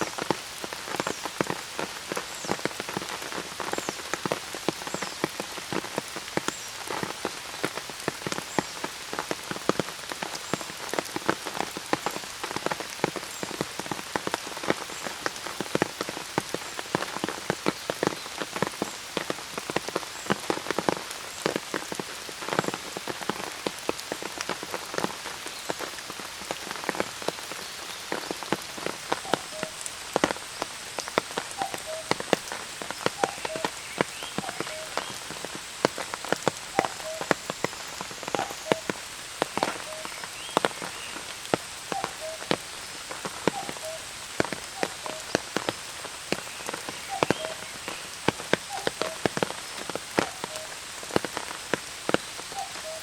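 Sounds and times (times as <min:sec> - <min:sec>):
rain on an umbrella: 0:00.0 - 0:53.0.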